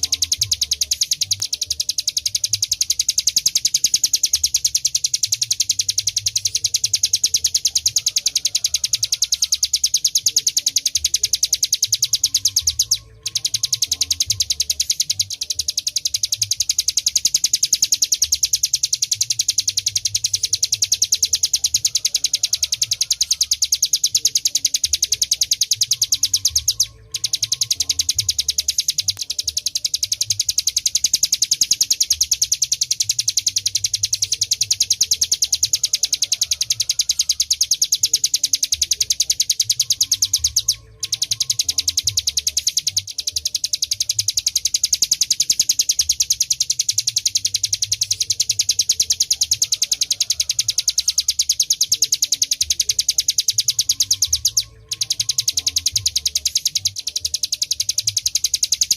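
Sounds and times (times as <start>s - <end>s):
bird singing rapid drilling trill: 0.0s - 58.9s.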